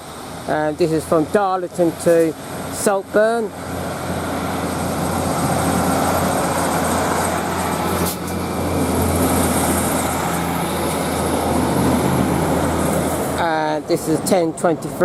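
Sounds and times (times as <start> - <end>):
diesel train engines droning: 0.0 - 15.0.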